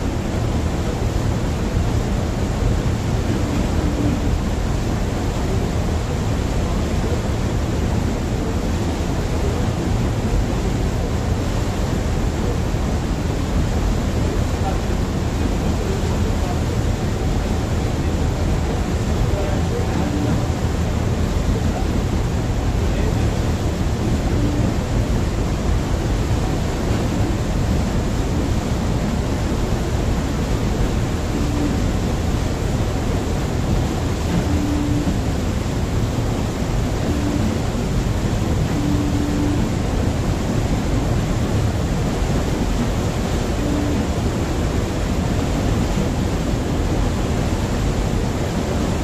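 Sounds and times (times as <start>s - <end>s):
ship engine rumble: 0.0s - 49.0s
water rushing along hull: 0.0s - 49.0s.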